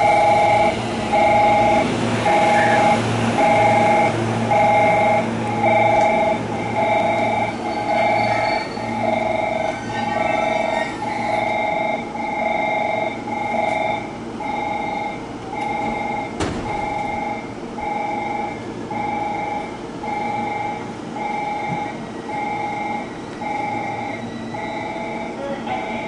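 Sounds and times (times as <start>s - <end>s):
electric train hum: 0.0s - 26.0s
repeating electronic beep: 0.2s - 21.7s, 22.3s - 26.0s.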